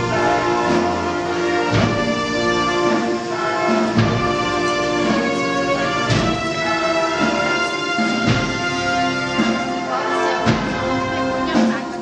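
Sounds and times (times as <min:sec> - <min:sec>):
drum stroke: 0:00.0 - 0:12.0
slow band music: 0:00.0 - 0:12.0.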